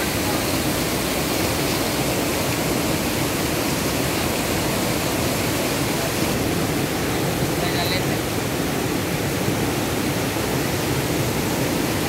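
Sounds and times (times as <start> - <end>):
water rushing over rapids: 0.0 - 12.0.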